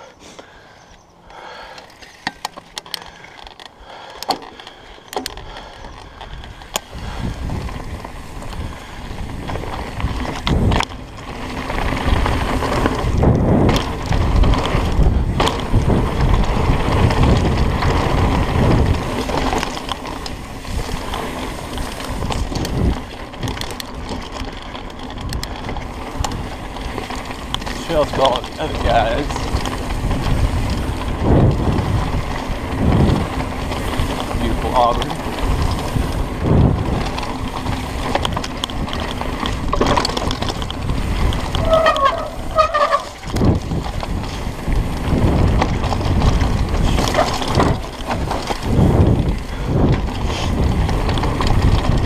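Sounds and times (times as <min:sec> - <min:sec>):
bike clicks and rattles: 0:00.0 - 0:52.0
bike tyres rolling over dirt: 0:00.0 - 0:52.0
wind rumble on microphone: 0:05.3 - 0:52.0.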